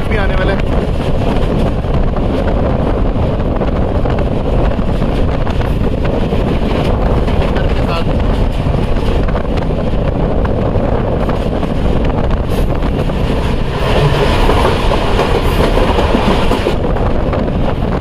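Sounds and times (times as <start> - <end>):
train wheels running on rails: 0.0 - 18.0.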